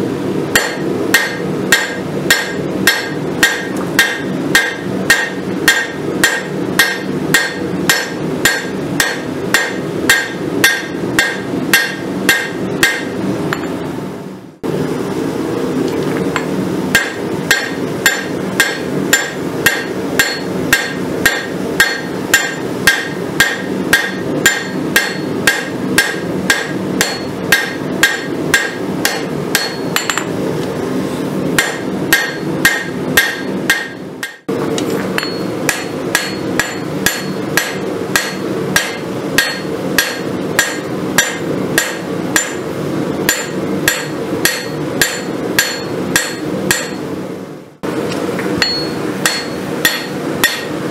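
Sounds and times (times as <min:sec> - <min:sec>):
steady low hum: 0:00.0 - 0:50.9
hammer striking steel on anvil: 0:00.5 - 0:13.8, 0:16.4 - 0:30.3, 0:31.6 - 0:42.6, 0:43.2 - 0:47.1, 0:48.5 - 0:50.9.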